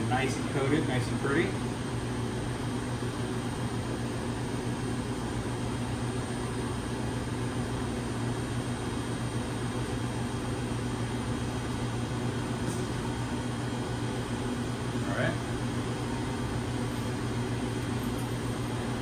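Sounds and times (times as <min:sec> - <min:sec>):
fan machinery humming: 0:00.0 - 0:19.0.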